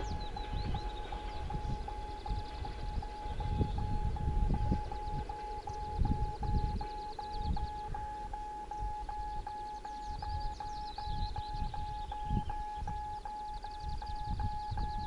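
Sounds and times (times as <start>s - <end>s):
small birds trilling: 0.0s - 15.0s
steady beeping tone: 0.0s - 15.0s
wind gusting on microphone: 0.0s - 15.0s.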